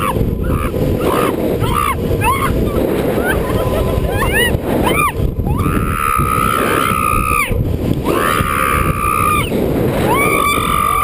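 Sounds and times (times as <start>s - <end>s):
wind rushing across microphone: 0.0s - 11.0s.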